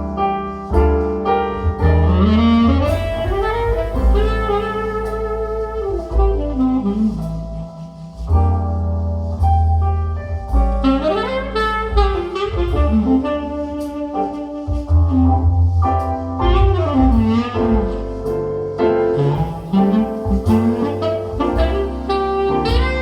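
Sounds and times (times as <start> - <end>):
jazz with saxophone and bass: 0.0 - 23.0.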